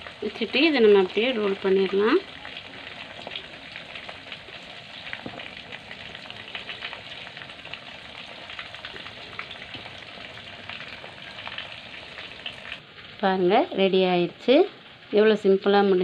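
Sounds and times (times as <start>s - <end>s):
crackling sizzle: 0.0s - 16.0s.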